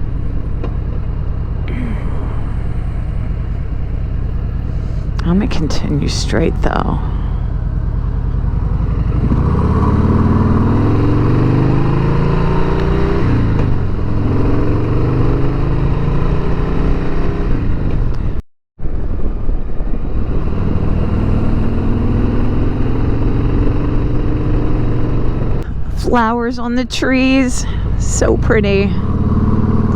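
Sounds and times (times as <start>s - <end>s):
motorcycle engine accelerating: 0.0s - 26.3s, 27.0s - 29.9s.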